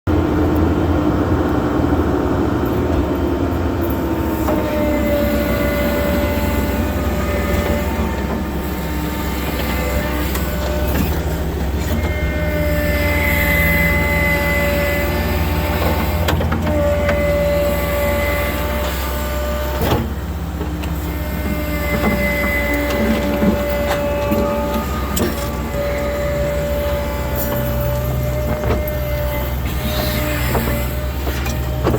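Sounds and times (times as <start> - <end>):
diesel engine running under load: 0.1 - 31.9
hydraulic whine: 0.1 - 31.9.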